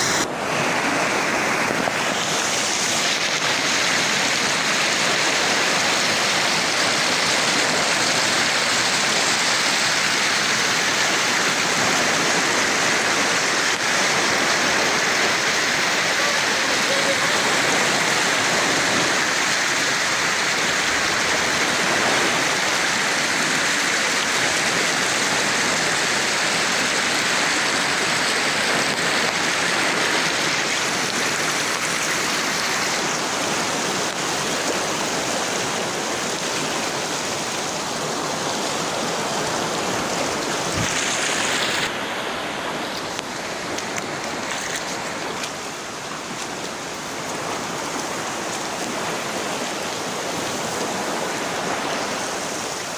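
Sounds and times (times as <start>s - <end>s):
flowing water rushing: 0.0s - 52.9s.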